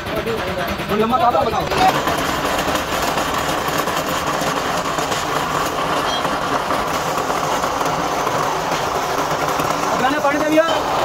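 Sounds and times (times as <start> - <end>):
drill press cutting steel: 0.0 - 11.0.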